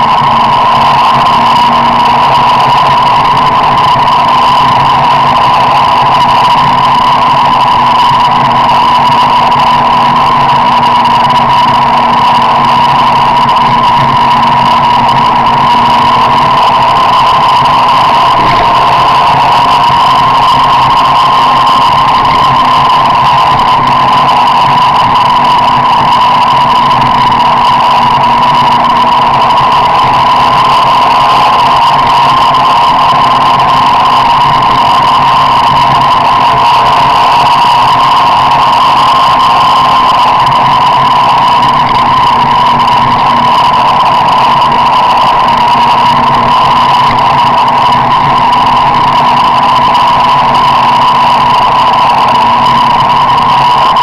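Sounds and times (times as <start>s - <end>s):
car driving drone: 0.0s - 54.0s
constant high-pitched tone: 0.0s - 54.0s.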